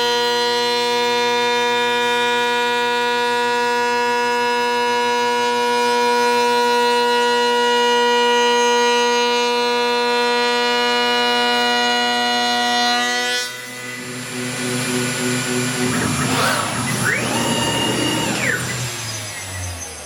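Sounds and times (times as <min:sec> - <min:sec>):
router motor whining: 0:00.0 - 0:20.0.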